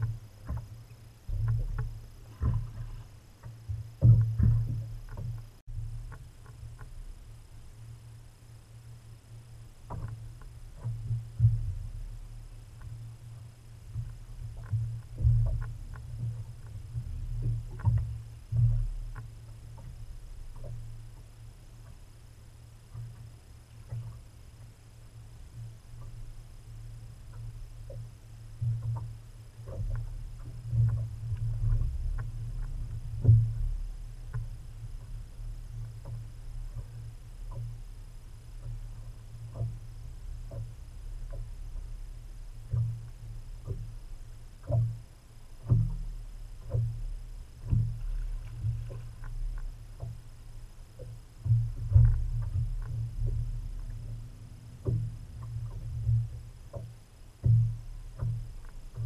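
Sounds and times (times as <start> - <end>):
waves slapping boat hull: 0.0 - 8.1, 8.7 - 59.0.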